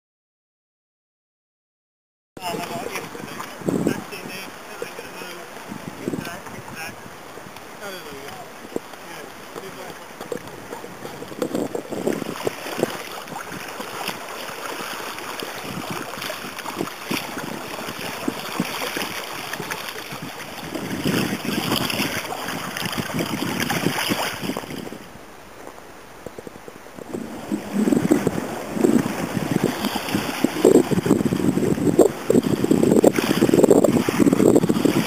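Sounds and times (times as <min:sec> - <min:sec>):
water lapping around kayaks: 0:02.4 - 0:35.0
wind buffeting microphone: 0:02.4 - 0:35.0.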